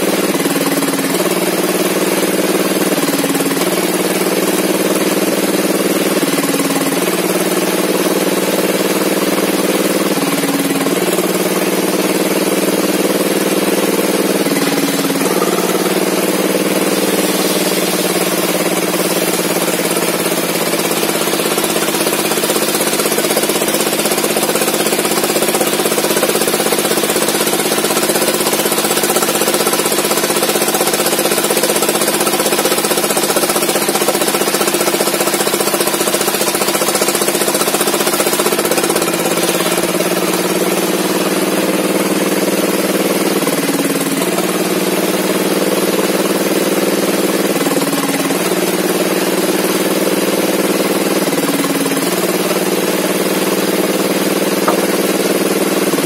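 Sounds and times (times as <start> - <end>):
engine-driven log saw running: 0.0 - 56.0.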